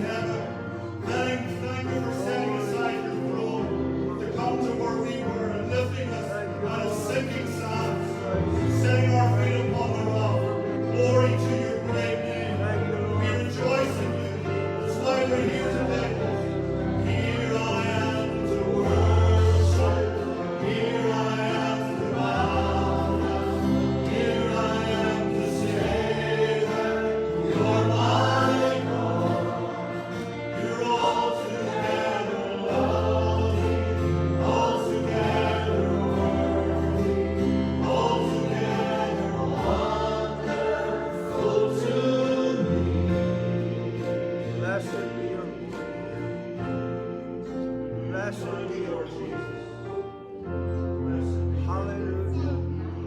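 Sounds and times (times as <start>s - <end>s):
group singing worship song: 0.0s - 53.0s
instrumental accompaniment: 0.0s - 53.0s.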